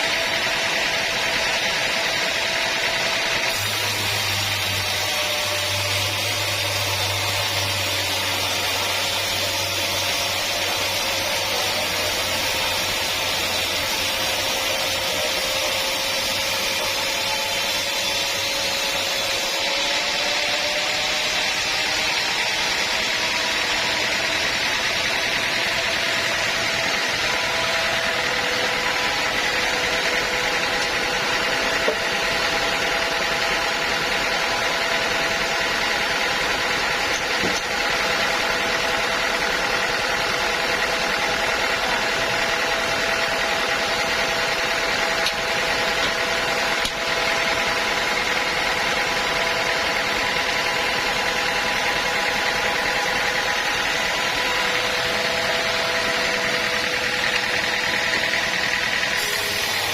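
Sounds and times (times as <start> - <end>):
sawmill machinery whining: 0.0 - 59.9.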